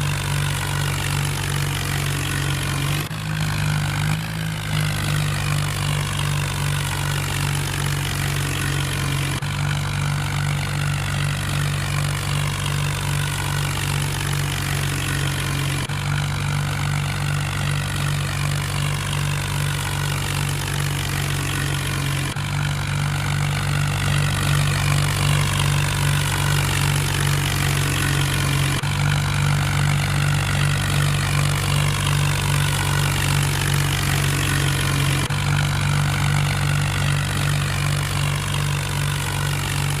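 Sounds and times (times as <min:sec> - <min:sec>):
tractor engine humming: 0:00.0 - 0:40.0.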